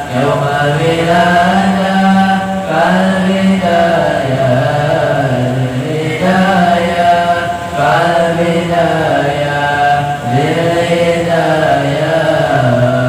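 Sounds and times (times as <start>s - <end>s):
two men singing into microphones: 0.0s - 13.0s.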